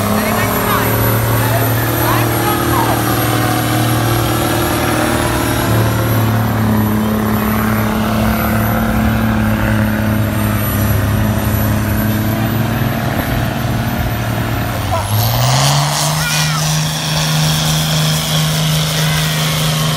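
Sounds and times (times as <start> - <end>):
diesel truck engine under load: 0.0 - 19.9.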